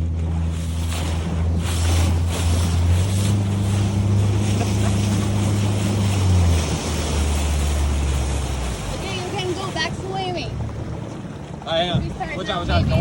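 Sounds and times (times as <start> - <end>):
motorboat engine running: 0.0 - 13.0
wind buffeting microphone: 0.0 - 13.0.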